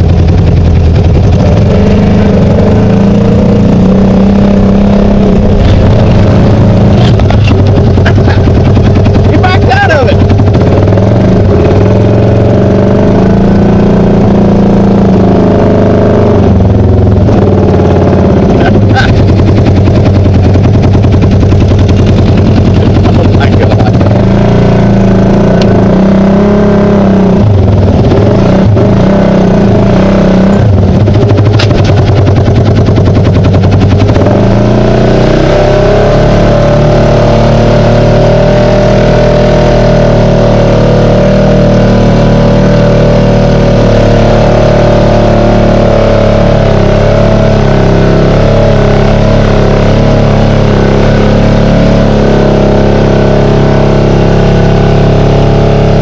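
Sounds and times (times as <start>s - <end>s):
utv engine revving: 0.0s - 56.0s.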